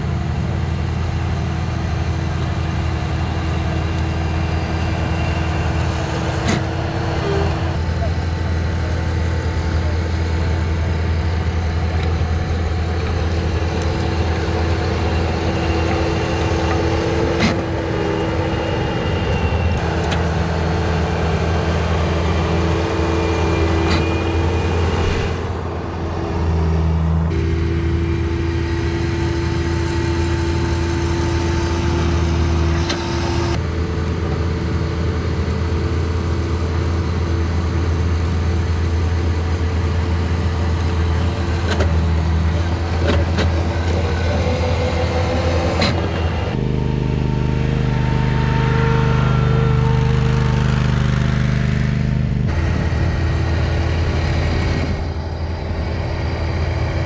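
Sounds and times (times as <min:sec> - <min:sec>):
loader engine running under load: 0:00.0 - 0:57.0.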